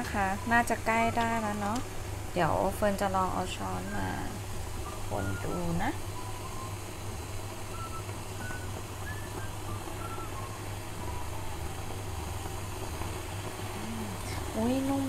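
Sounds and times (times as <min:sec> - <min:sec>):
low steady hum: 0:00.0 - 0:15.0
chicken sizzling in a pan: 0:01.8 - 0:15.0.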